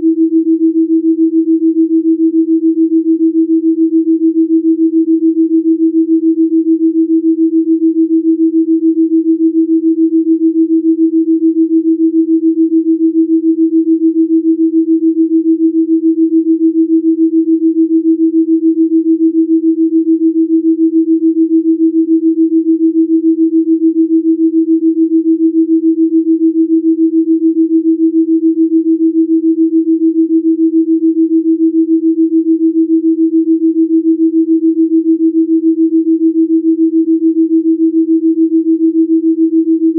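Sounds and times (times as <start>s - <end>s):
pulsing sine tone: 0.0s - 39.9s.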